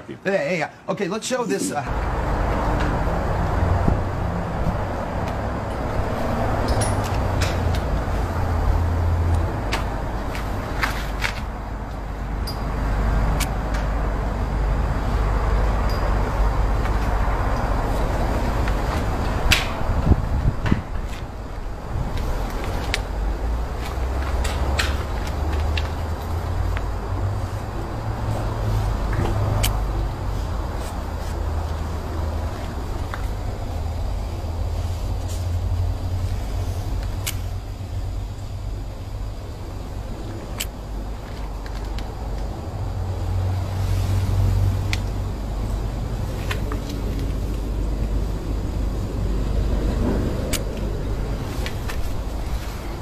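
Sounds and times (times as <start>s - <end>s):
diesel truck engine running: 1.6s - 53.0s.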